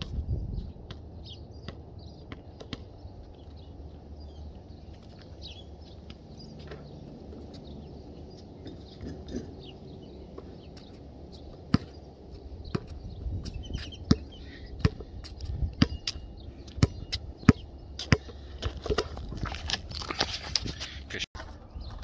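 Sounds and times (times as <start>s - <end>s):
basketball bouncing on asphalt: 0.0s - 4.1s, 4.9s - 20.6s.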